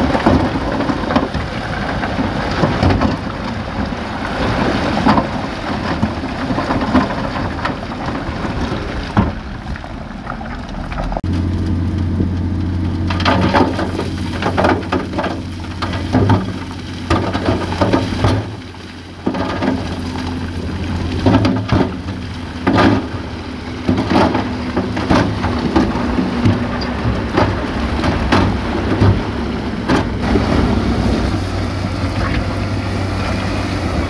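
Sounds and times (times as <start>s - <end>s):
heavy diesel engine running: 0.0s - 34.0s
large stones tumbling and clattering: 0.0s - 34.0s.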